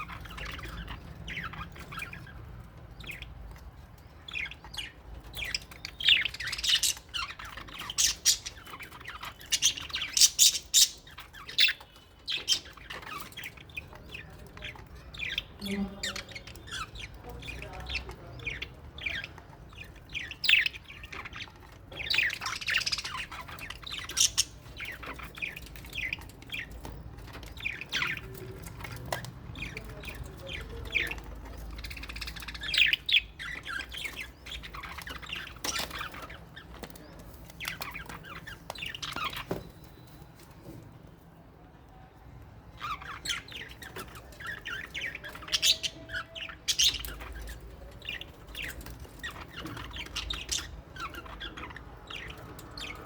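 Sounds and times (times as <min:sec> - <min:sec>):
birds chirping and squawking: 0:00.0 - 0:53.0.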